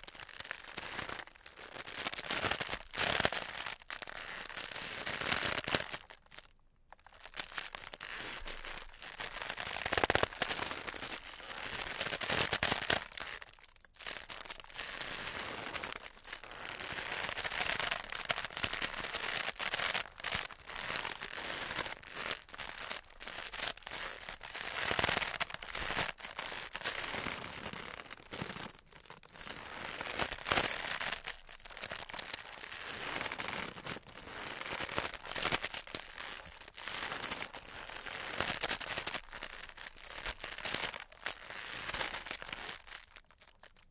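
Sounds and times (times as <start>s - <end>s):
wicker creaking and crackling: 0.0s - 43.9s.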